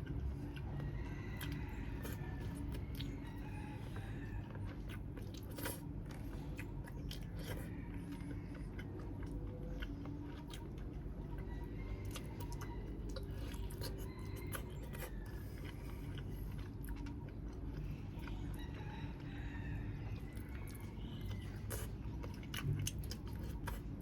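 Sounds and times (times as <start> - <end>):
chewing and lip-smacking: 0.0 - 24.0
steady low hum: 0.0 - 24.0.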